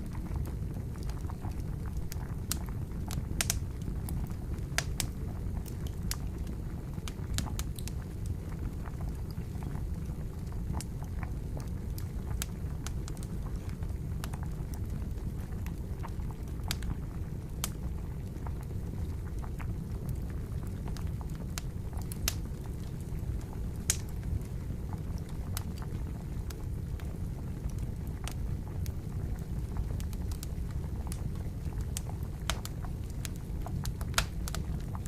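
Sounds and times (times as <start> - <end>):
water bubbling at a boil: 0.0 - 35.0
wood fire crackling and popping: 0.0 - 35.0.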